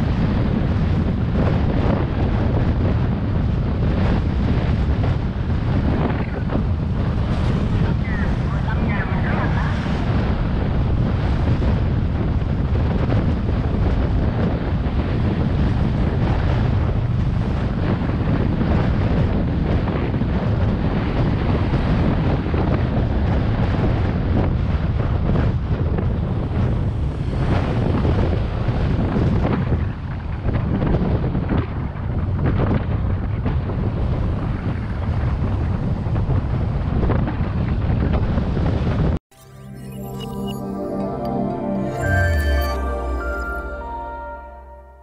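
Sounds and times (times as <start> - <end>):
wind rushing over microphone: 0.0 - 39.2.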